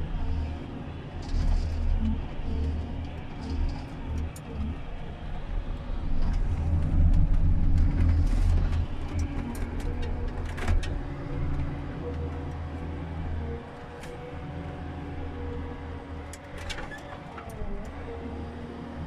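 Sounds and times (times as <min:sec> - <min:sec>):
diesel engine and hydraulics: 0:00.0 - 0:19.0.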